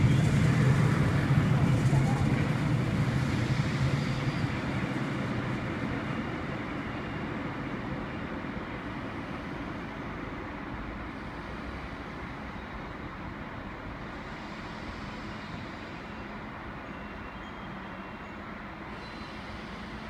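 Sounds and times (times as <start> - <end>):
diesel train pulling away: 0.0 - 20.0.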